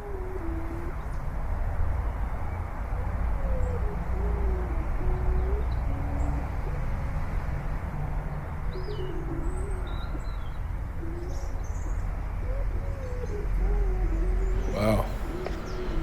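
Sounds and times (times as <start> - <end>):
wavering hoot-like tone: 0.0 - 1.2, 2.8 - 7.3, 8.6 - 16.0.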